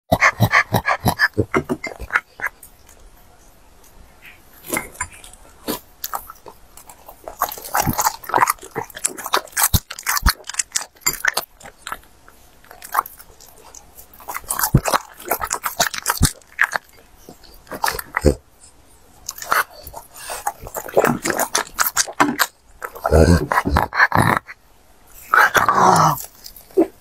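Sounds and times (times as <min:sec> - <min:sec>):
dog chewing and crunching cabbage: 0:00.1 - 0:03.0, 0:04.2 - 0:18.4, 0:19.2 - 0:24.5, 0:25.1 - 0:27.0.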